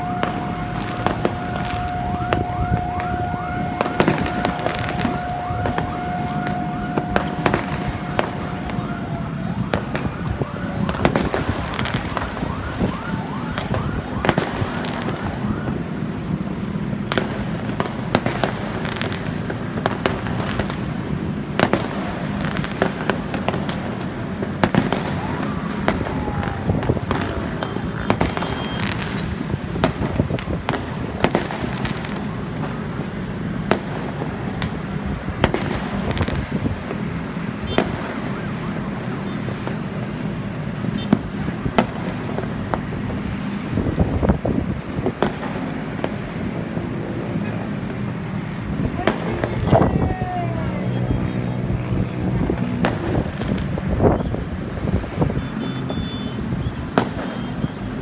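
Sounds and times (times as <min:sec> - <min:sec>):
whistling rockets: 0:00.0 - 0:43.8, 0:48.9 - 0:58.0
fireworks bangs: 0:00.0 - 0:58.0
fireworks crackle: 0:00.0 - 0:58.0.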